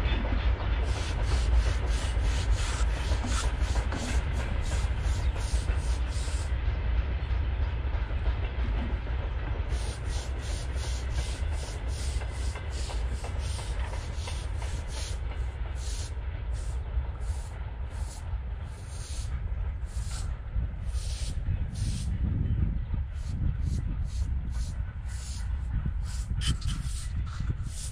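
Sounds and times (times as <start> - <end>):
distant freight train rumble: 0.0 - 27.9.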